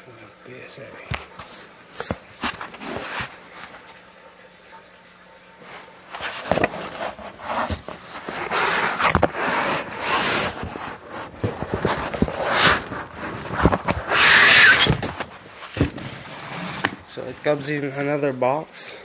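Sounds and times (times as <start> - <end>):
cardboard rustling and scraping: 1.1 - 4.0, 5.6 - 18.4.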